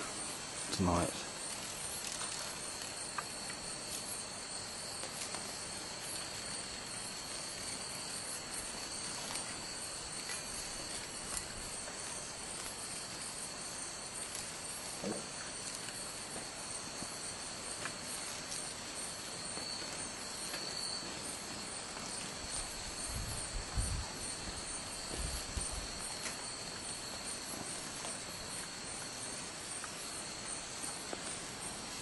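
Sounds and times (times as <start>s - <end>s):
higher pulsing insect trill: 0.0s - 32.0s
insects trilling: 0.0s - 32.0s.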